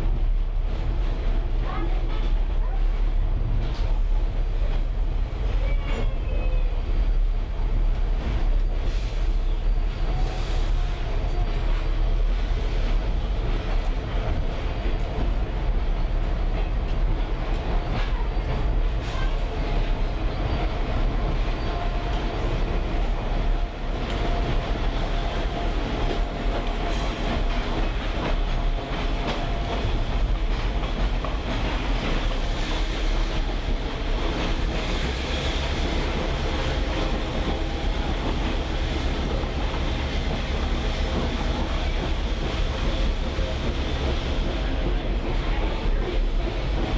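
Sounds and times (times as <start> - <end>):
rail car wheels rumbling and rattling: 0.0 - 46.9.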